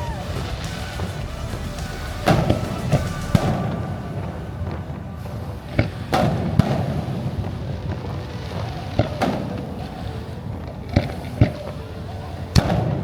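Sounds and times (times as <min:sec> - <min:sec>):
crowd din: 0:00.0 - 0:13.0
fireworks bangs: 0:00.0 - 0:13.0
music: 0:00.0 - 0:13.0.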